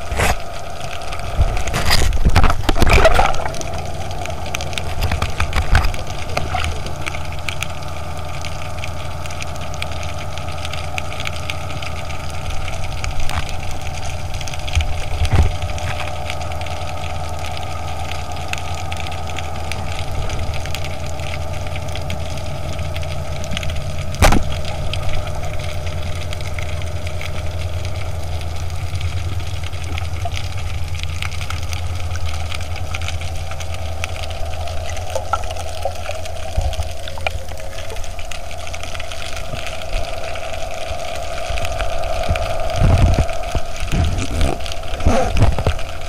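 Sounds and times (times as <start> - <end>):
underwater motor hum: 0.0 - 46.0.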